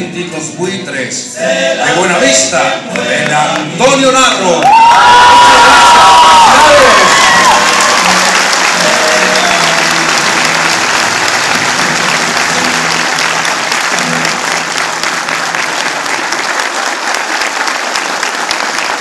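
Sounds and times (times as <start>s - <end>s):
audience applauding: 2.9s - 19.0s.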